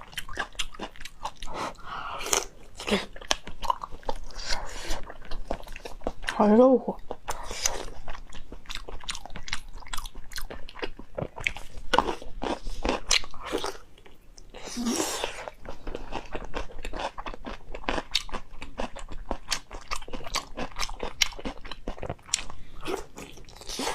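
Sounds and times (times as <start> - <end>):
person chewing crunchy food: 0.0 - 23.9.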